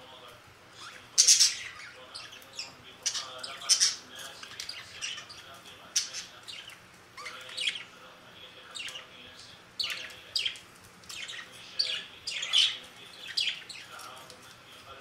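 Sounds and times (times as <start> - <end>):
budgerigars chirping: 0.8 - 7.9, 8.7 - 14.0.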